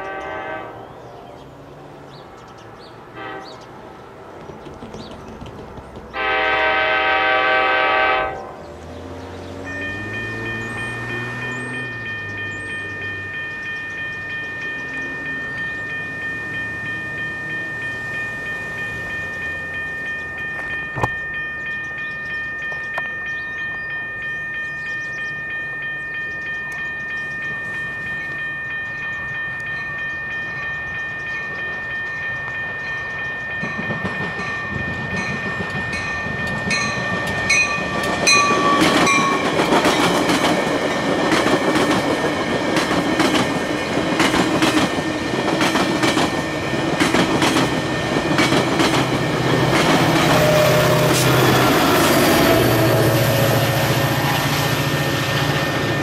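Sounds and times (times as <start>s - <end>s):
railroad crossing bell ringing: 0.0s - 3.9s, 6.2s - 56.0s
train wheels rumbling and clacking: 1.5s - 56.0s.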